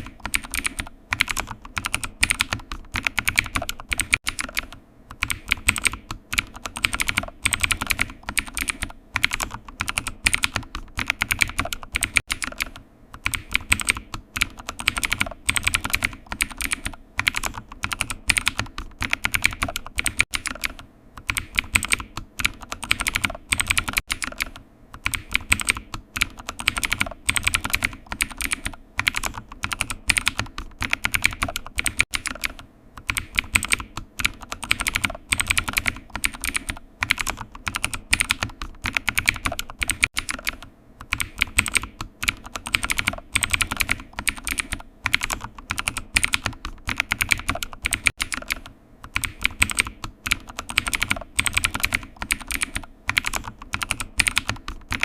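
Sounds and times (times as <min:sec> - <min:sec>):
keyboard typing: 0:00.0 - 0:55.0.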